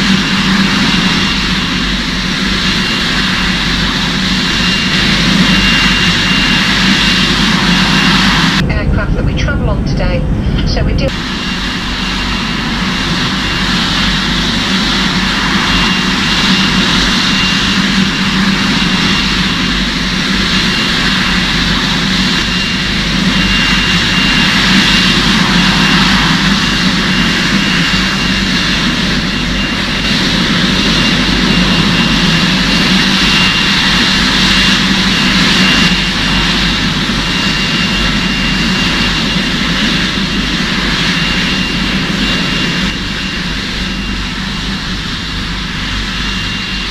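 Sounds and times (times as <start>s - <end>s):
low hum: 0.0s - 46.9s
model jet engine whine and rush: 0.0s - 46.9s.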